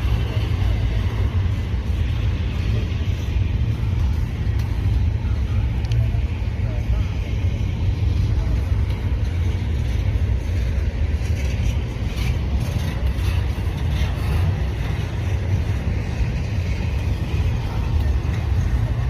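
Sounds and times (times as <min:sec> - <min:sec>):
freight train rumbling past: 0:00.0 - 0:19.0
train cars rattling: 0:00.0 - 0:19.0.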